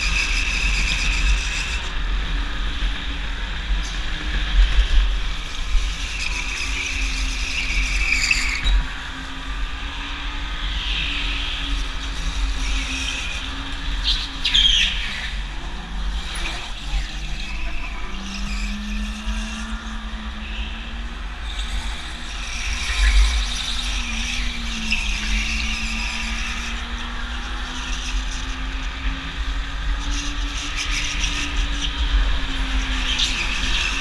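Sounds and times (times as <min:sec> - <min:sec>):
go-kart engine rumbling: 0:00.0 - 0:34.0.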